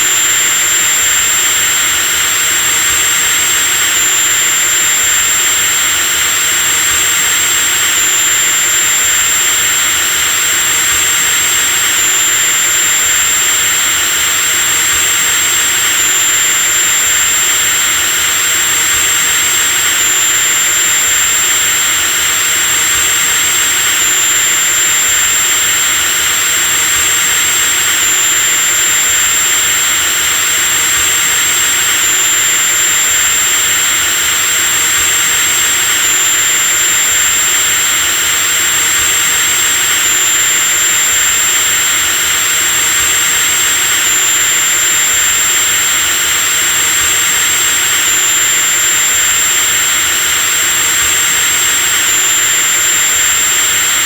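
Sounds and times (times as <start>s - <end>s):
electric drill motor whine: 0.0s - 54.0s.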